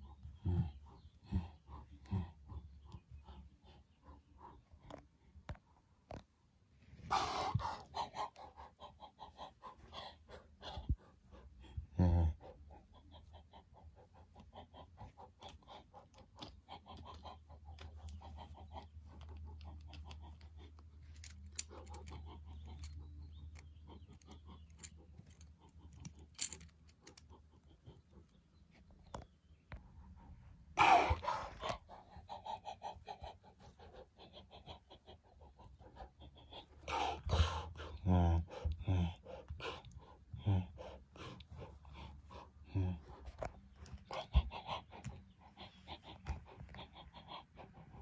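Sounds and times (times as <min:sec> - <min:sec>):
person making panting animal noises: 0:00.0 - 0:05.2, 0:07.0 - 0:26.0, 0:29.8 - 0:48.0.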